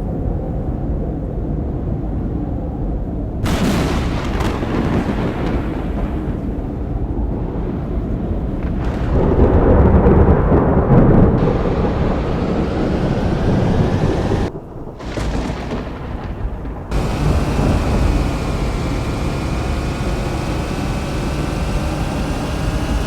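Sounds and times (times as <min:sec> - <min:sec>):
thunder rumbling: 0:03.4 - 0:23.0.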